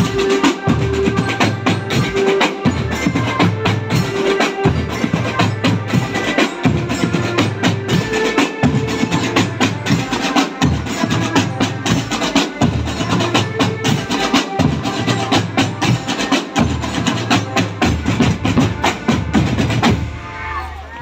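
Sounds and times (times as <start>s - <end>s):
marching drum band: 0.0s - 21.0s.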